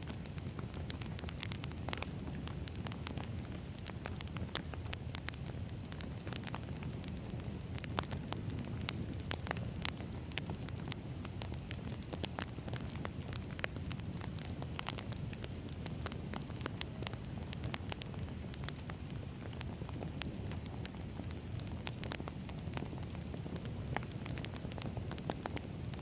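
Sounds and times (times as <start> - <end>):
wood fire burning and popping: 0.0 - 26.0.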